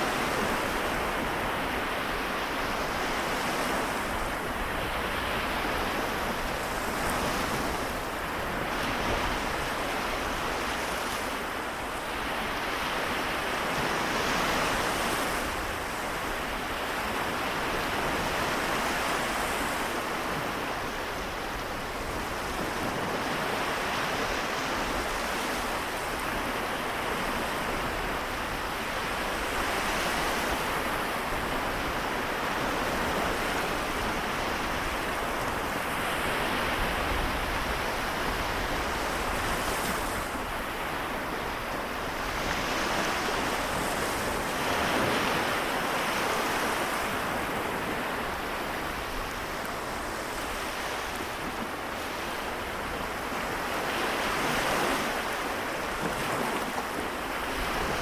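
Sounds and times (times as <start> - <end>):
small waves washing onto shore: 0.0 - 58.0.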